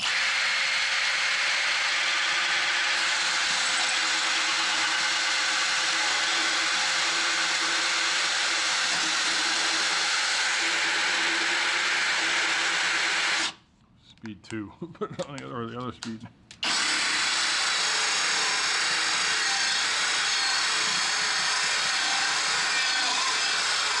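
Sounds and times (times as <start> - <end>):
drill hole saw cutting wood: 0.0 - 13.6, 16.6 - 24.0.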